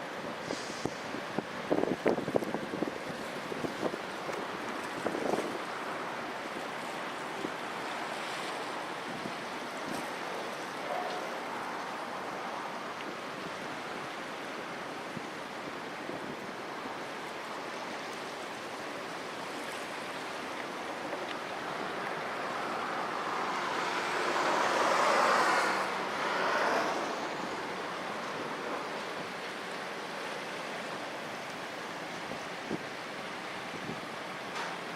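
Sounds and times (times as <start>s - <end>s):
waves washing: 0.0s - 34.9s
wind: 0.0s - 34.9s.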